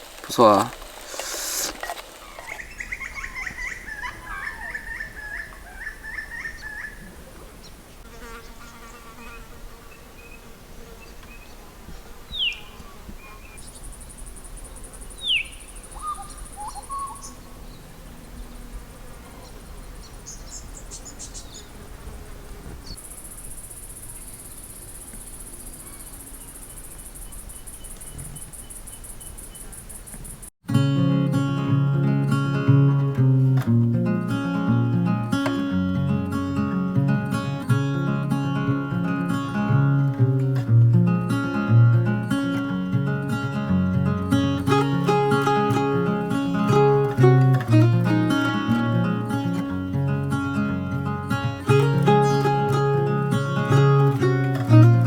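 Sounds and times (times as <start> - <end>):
insects trilling: 0.0 - 30.5, 41.1 - 55.0.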